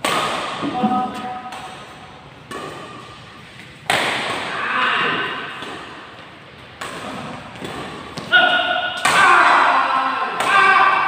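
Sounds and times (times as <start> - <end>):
racket hitting shuttlecock: 0.0 - 4.6, 5.2 - 11.0.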